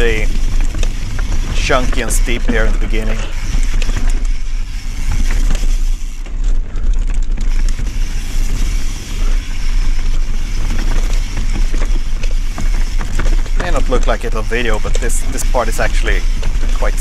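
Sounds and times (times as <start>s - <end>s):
bike knocking and rattling: 0.0s - 17.0s
tyres crunching over rock: 0.0s - 17.0s
wind and ground rumble: 0.0s - 17.0s.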